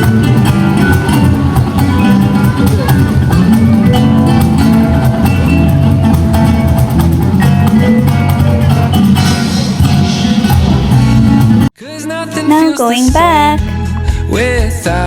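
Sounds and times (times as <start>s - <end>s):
pop song with guitar: 0.0s - 6.8s, 7.4s - 15.0s.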